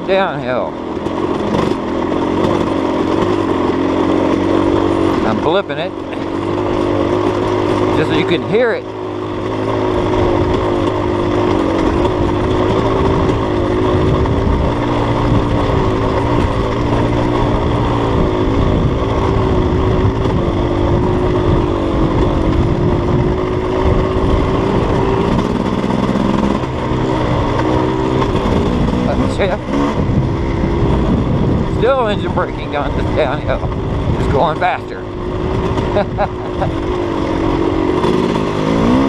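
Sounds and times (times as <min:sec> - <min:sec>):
dirt bike engine braking: 0:00.0 - 0:39.0.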